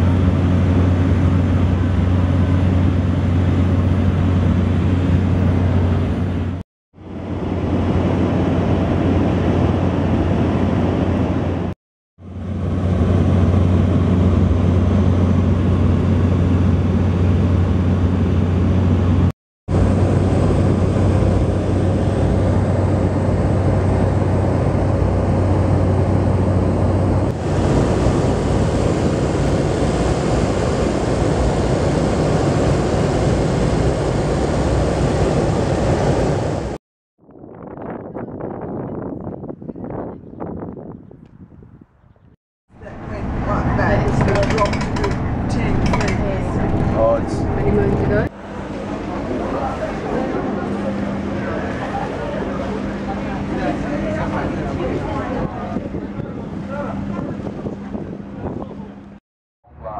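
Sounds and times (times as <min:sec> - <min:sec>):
boat engine humming: 0:00.0 - 0:36.8, 0:42.8 - 0:59.9
water noise: 0:00.0 - 0:36.8, 0:42.7 - 0:59.2
rushing wind: 0:00.0 - 0:59.9.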